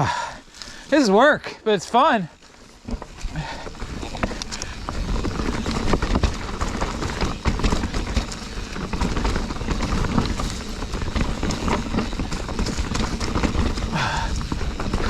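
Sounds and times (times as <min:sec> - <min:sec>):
bike rattling: 0:00.0 - 0:15.0.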